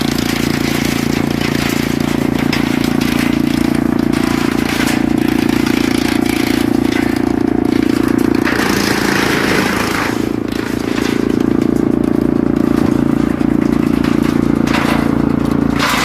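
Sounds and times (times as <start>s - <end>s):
wood chipper humming: 0.0s - 16.0s.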